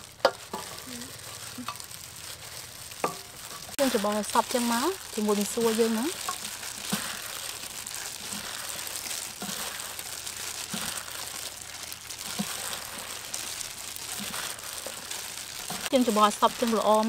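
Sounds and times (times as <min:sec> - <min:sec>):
plastic gloves crinkling: 0:00.0 - 0:17.0
wet food rustling and squelching: 0:00.0 - 0:17.0.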